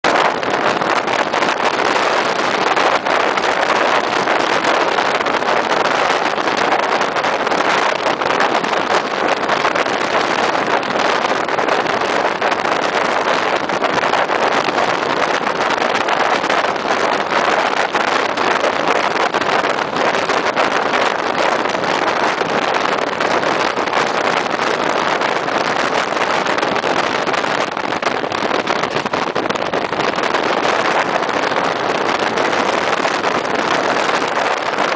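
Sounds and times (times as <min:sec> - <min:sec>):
wind on microphone: 0:00.0 - 0:34.9.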